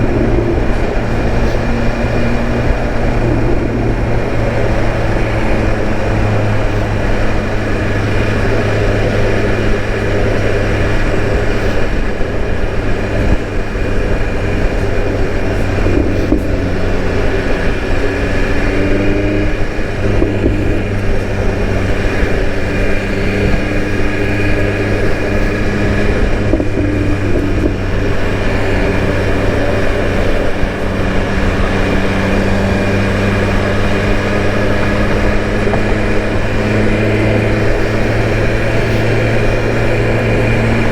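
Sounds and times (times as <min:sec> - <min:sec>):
motorcycle engine droning: 0:00.0 - 0:40.9.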